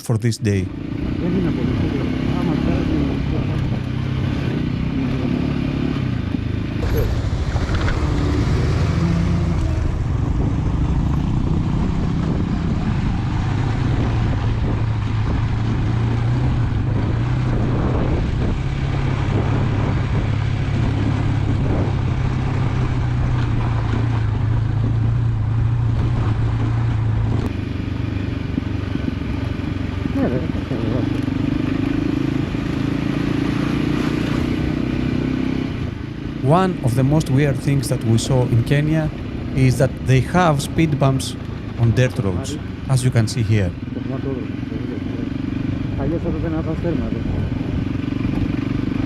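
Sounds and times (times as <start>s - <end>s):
wind and road noise: 0.0s - 49.0s
motorcycle engine running: 0.7s - 49.0s.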